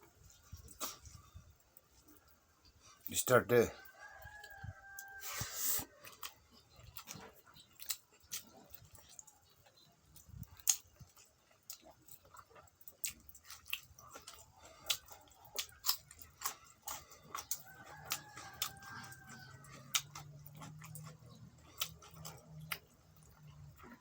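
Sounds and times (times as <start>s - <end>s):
chewing food with mouth smacks: 0.0s - 3.1s, 3.8s - 24.0s.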